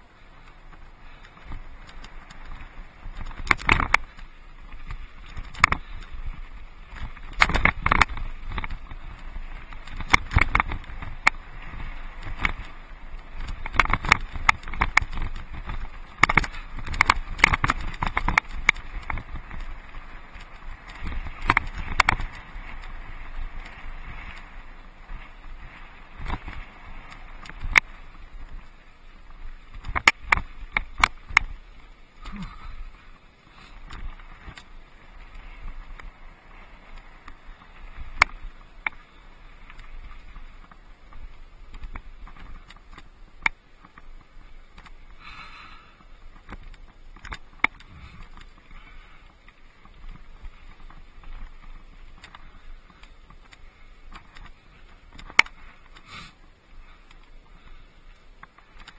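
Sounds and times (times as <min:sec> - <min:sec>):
bike tyres on gravel rattling: 0:00.0 - 0:58.9.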